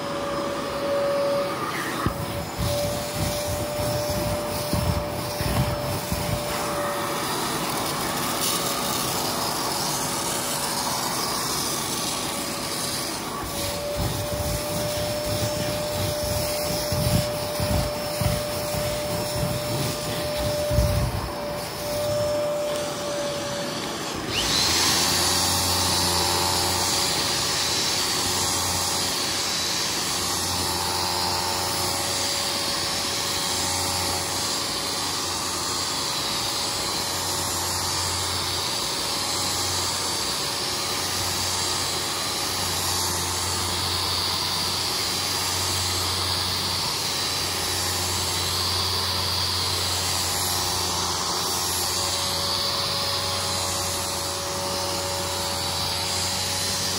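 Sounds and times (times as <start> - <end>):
cleaning machine hum: 0.0 - 56.9
power drill brush scrubbing carpet: 0.0 - 56.9.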